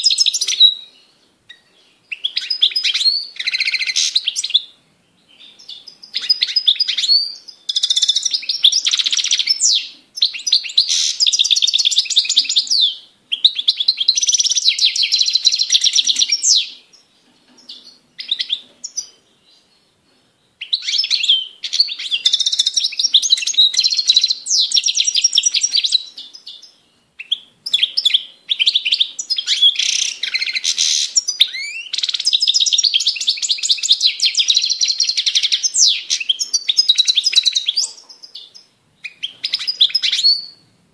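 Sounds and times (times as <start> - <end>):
goldfinch twittering song: 5.4 - 19.6, 20.6 - 40.6.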